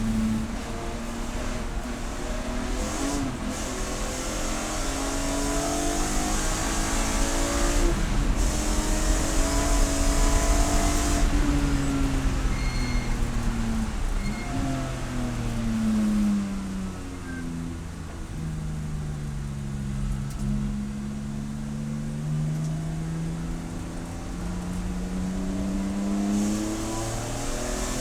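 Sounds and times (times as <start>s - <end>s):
race car engine revving: 0.0s - 17.4s, 18.0s - 28.0s
wind and road noise: 0.0s - 28.0s.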